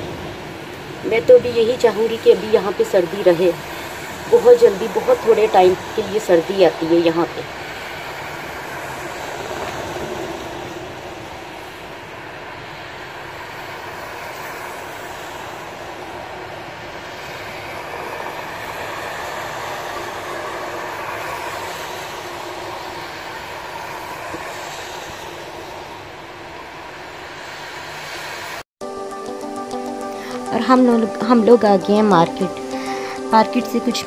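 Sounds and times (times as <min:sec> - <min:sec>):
rain: 0:00.0 - 0:28.7, 0:29.9 - 0:34.0
tyres hissing on wet road: 0:00.0 - 0:28.7, 0:31.9 - 0:34.0.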